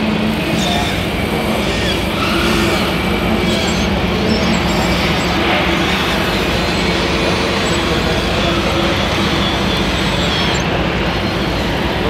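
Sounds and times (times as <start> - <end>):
electronic diesel engine sound: 0.0 - 12.0
exhibition hall crowd din: 0.0 - 12.0.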